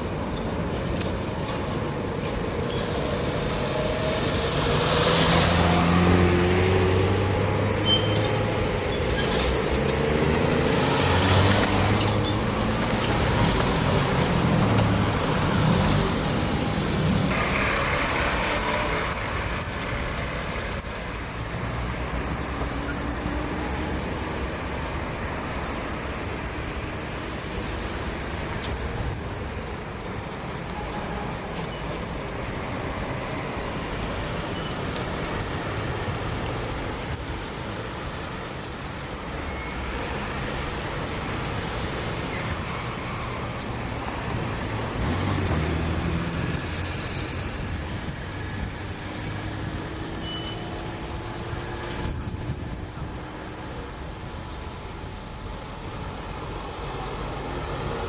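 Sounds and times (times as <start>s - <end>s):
street traffic: 0.0s - 58.0s.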